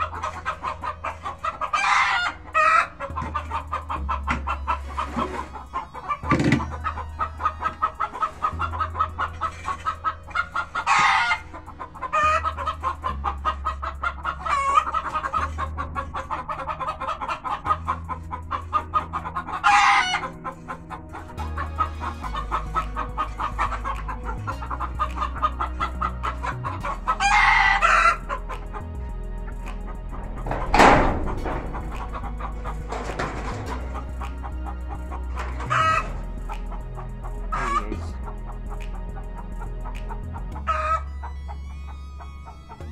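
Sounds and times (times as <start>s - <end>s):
background music with bassline: 0.0s - 42.9s
chickens clucking: 0.0s - 42.9s.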